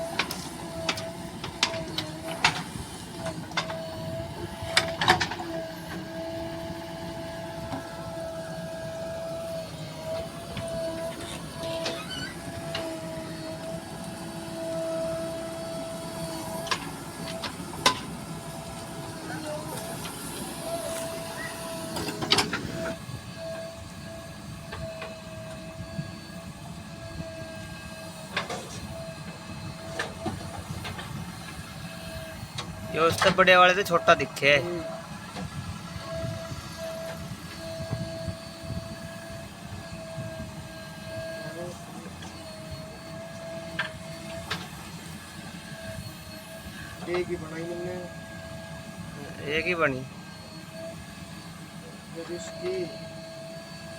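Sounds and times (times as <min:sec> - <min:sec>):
small electric motor whining: 0:00.0 - 0:53.9.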